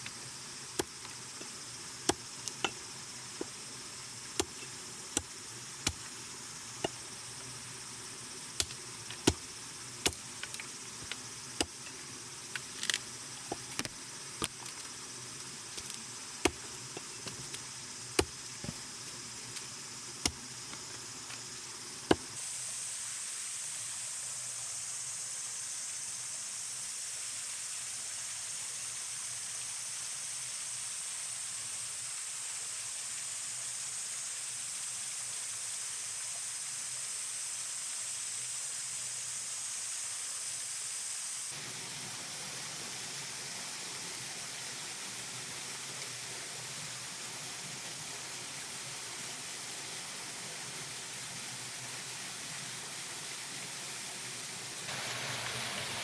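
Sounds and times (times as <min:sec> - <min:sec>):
steady high hiss: 0:00.0 - 0:56.0.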